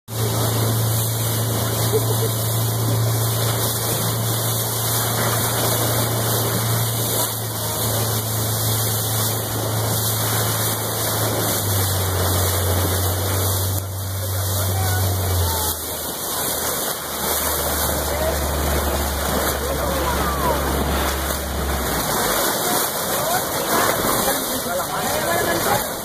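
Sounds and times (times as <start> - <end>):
boat engine humming: 0.0 - 26.0
wind and water spray rushing: 0.1 - 26.0.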